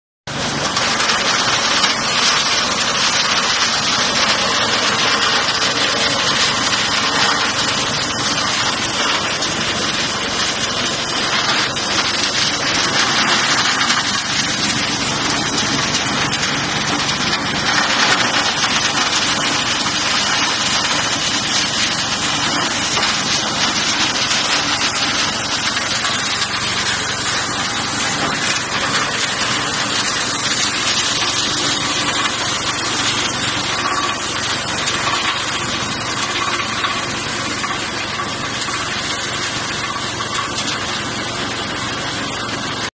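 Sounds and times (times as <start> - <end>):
corn thresher running: 0.3 - 42.9.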